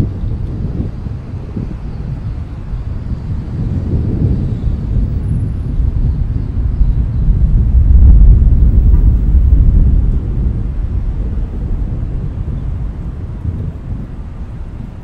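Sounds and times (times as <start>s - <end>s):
deep noisy rumble: 0.0s - 15.0s.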